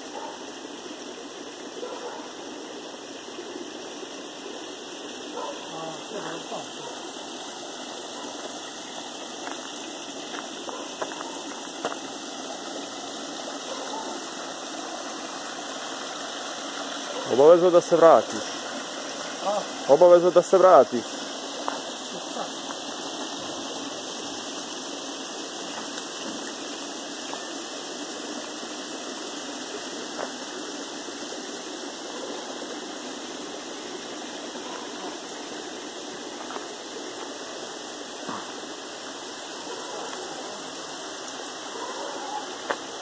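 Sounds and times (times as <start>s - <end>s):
flowing stream water: 0.0s - 43.0s.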